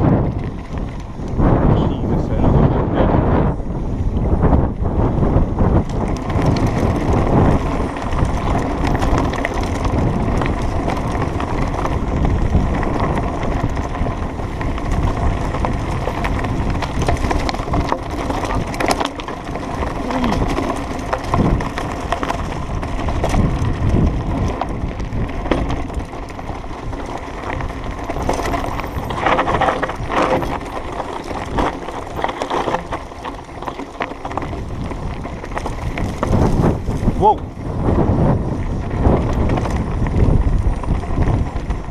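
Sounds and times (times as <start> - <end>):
bike knocks and rattles: 0.0 - 41.9
bike tyres on gravel trail: 0.0 - 41.9.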